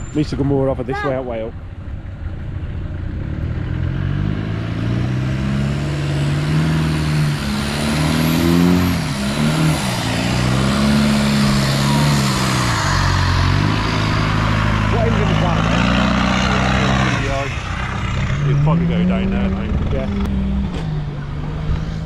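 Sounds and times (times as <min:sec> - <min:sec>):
off-road vehicle engine revving: 0:02.4 - 0:22.0.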